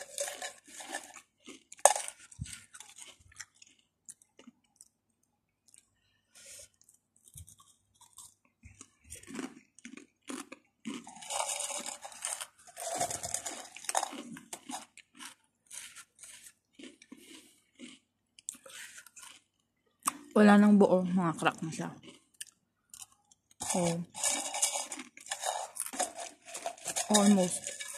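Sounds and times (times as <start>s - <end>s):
crisps crunching and chewing: 0.0s - 27.9s.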